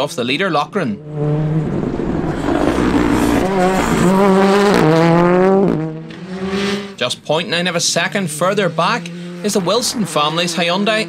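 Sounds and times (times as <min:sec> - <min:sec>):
rally car engine passing at speed: 0:00.0 - 0:11.0.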